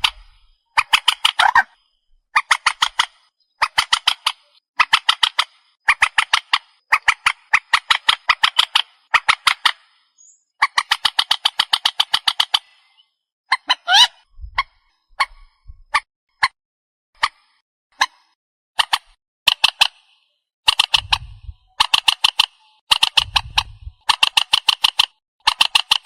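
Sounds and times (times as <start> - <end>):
bird calling harsh repeated notes: 0.0 - 16.6, 17.2 - 26.0.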